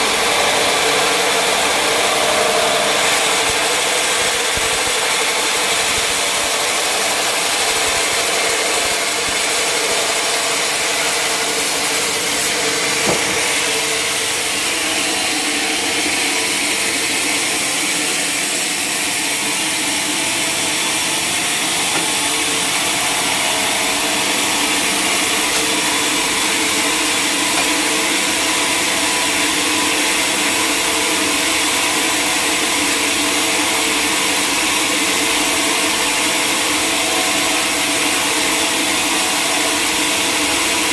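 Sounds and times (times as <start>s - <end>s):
sawmill blade cutting log: 0.0s - 40.9s.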